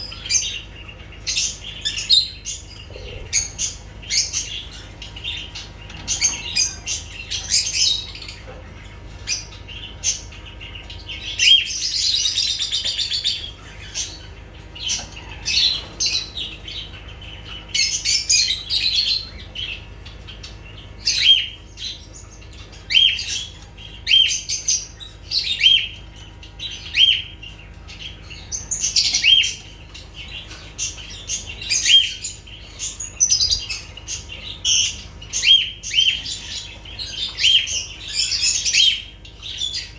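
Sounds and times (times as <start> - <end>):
lovebirds chirping and chattering: 0.0 - 39.9
sharp bird calls: 0.0 - 39.9.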